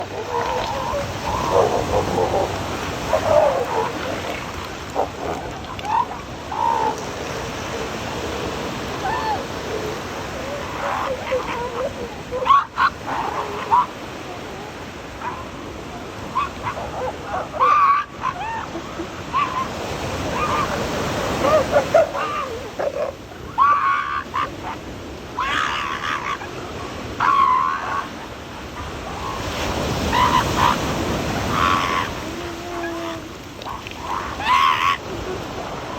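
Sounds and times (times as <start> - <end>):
elephant seals calling: 0.0 - 35.9
surf washing on beach: 0.0 - 35.9.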